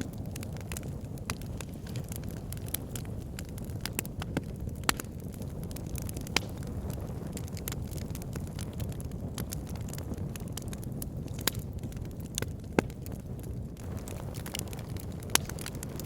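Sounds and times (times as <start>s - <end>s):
fire crackles and pops: 0.0s - 16.0s
flames rumbling: 0.0s - 16.0s.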